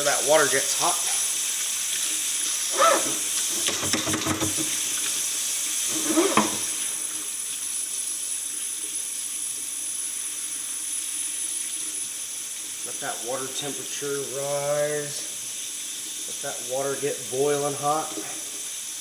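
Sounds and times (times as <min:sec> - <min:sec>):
water hissing as it heats: 0:00.0 - 0:19.0.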